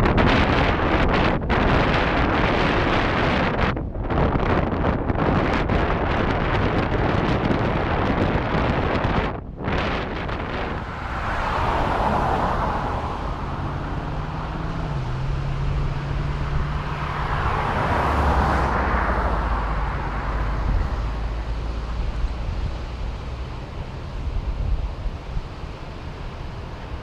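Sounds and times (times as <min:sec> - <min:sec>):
road traffic passing: 0:00.0 - 0:27.0
wind rushing over microphone: 0:00.0 - 0:27.0
low-humming vehicle passing: 0:00.1 - 0:27.0.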